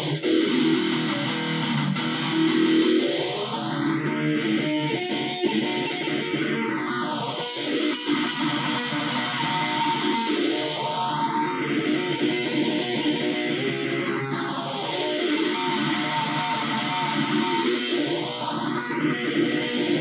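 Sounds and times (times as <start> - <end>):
guitar with sweeping effect: 0.0 - 20.0.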